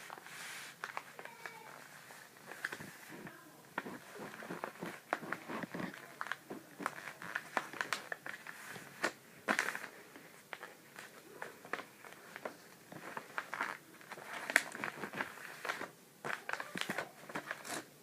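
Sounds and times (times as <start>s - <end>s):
paper crinkling as it is folded: 0.0s - 17.9s.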